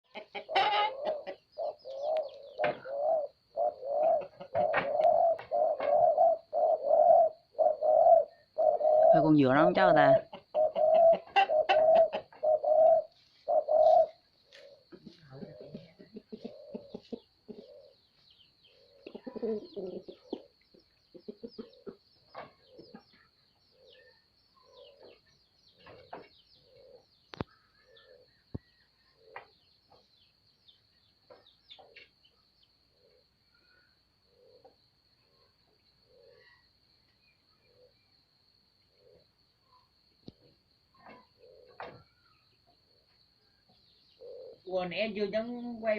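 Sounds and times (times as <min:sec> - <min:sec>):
dove cooing: 0:00.1 - 0:25.2, 0:25.8 - 0:29.7, 0:32.9 - 0:36.6, 0:37.5 - 0:38.1, 0:38.9 - 0:45.9.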